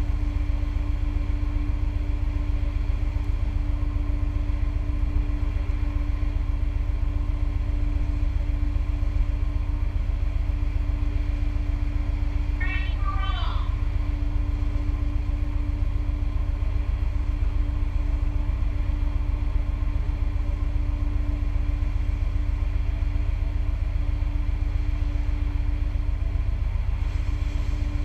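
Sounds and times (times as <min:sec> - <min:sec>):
ship machinery rumble: 0:00.0 - 0:28.0.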